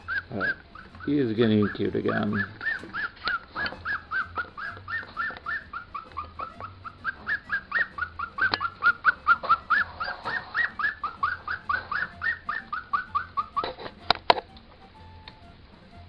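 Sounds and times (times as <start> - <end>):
puppy whimpering: 0.0 - 14.1.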